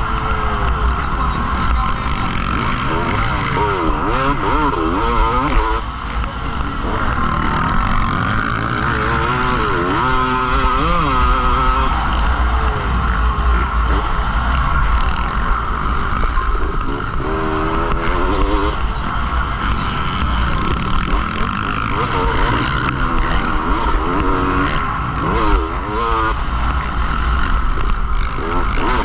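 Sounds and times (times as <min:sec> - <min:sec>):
background noise rush: 0:00.0 - 0:29.0
motorcycle engines revving: 0:00.0 - 0:29.0.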